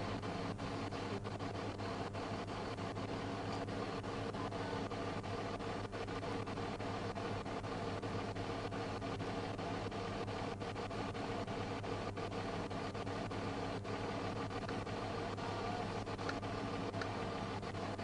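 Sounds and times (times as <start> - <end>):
constant hiss: 0.0 - 18.0
steady mechanical hum: 0.0 - 18.0.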